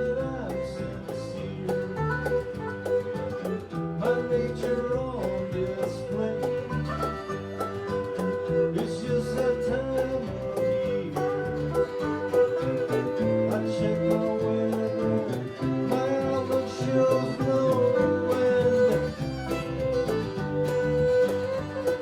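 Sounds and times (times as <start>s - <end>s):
bass: 0.0s - 22.0s
fiddle holding long notes: 0.0s - 22.0s
strummed guitars: 0.0s - 22.0s.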